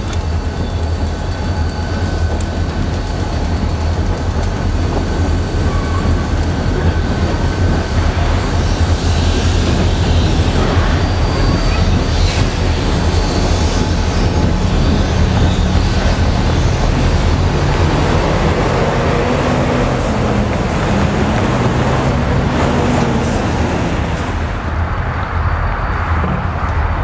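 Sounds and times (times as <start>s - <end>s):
freight train rumble: 0.0s - 27.0s
diesel engine drone: 1.8s - 27.0s.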